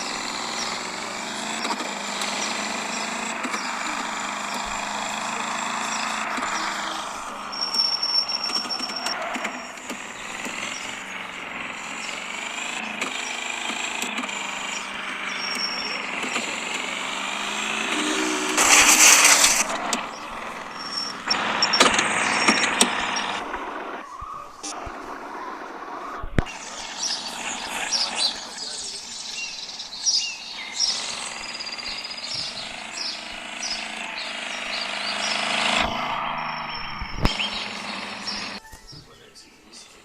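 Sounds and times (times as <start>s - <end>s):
loud noisy burst: 0.0s - 30.0s, 30.7s - 38.6s
car engines revving: 0.0s - 38.6s.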